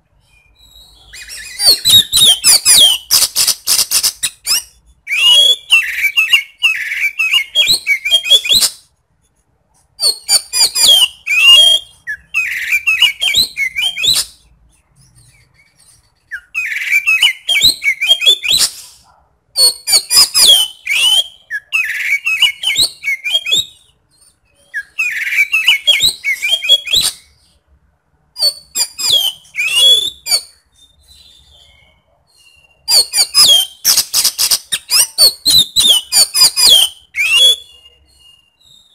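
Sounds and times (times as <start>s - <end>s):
magpie-robin singing: 0.2s - 27.6s, 28.4s - 38.9s.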